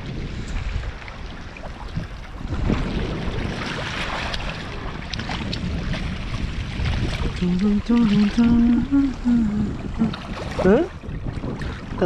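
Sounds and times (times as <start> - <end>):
seawater washing among rocks: 0.0 - 12.0
wind buffeting microphone: 0.0 - 12.0.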